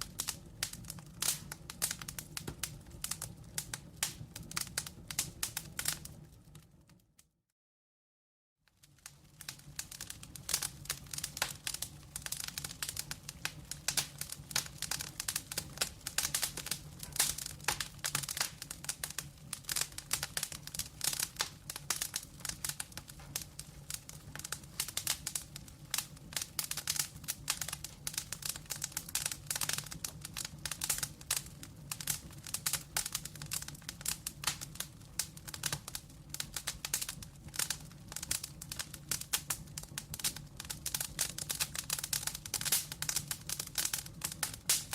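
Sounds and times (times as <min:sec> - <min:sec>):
low flame rumble: 0:00.0 - 0:07.0, 0:08.8 - 0:44.9
wood fire crackling: 0:00.0 - 0:07.2, 0:08.7 - 0:44.9.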